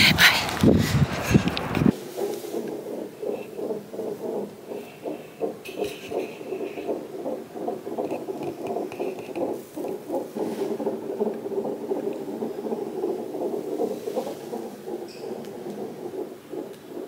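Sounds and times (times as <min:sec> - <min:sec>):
fetal heartbeat on monitor: 0:00.0 - 0:17.0.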